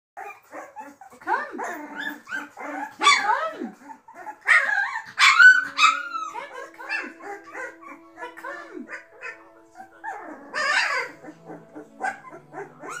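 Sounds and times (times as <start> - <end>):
puppies squeaking and yelping: 0.2 - 13.0.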